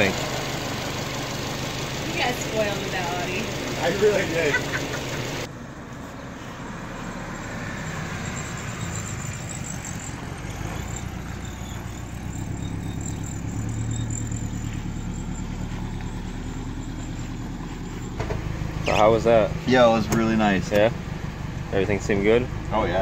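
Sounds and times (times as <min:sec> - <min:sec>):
car engine approaching: 0:00.0 - 0:23.0.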